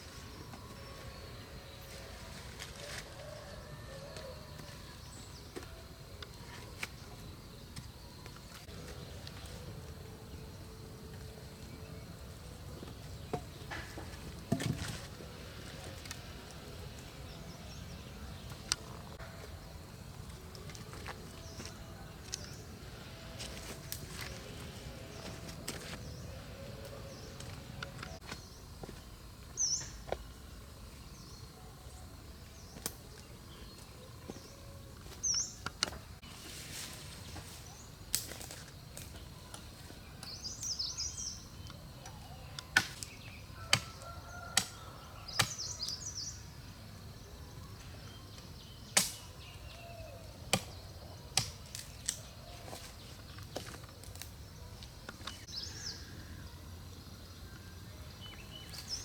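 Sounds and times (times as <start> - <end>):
low outdoor hum: 0.0 - 59.0.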